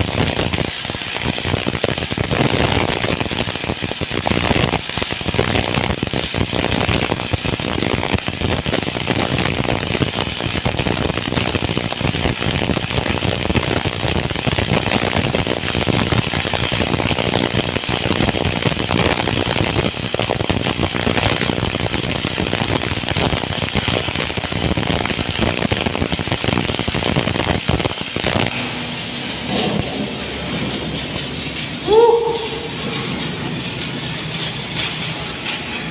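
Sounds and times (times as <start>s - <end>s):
welding arc crackling: 0.0s - 35.9s.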